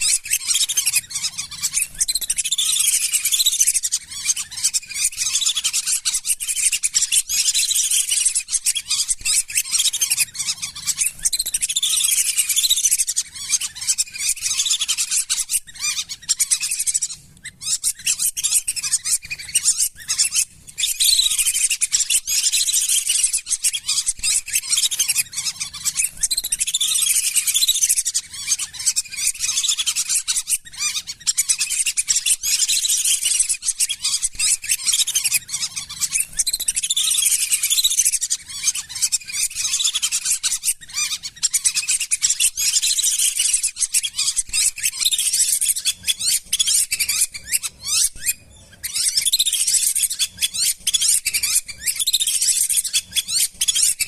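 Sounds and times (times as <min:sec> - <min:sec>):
ducks whistling: 0:00.0 - 0:54.0.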